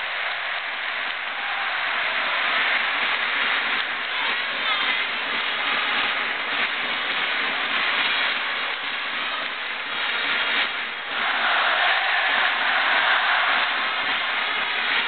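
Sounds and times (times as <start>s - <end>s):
large crowd noise: 0.0s - 15.0s.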